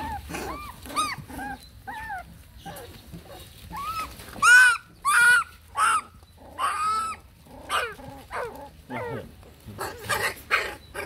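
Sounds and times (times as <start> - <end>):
puppies whining and yelping: 0.0 - 11.0.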